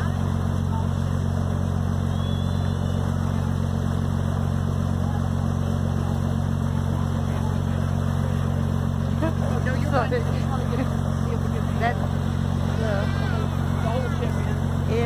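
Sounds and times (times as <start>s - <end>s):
ship engine droning: 0.0s - 15.0s.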